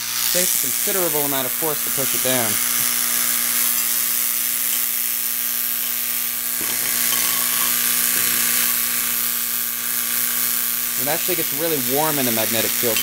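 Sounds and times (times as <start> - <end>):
electromagnet mains buzz: 0.0 - 13.0.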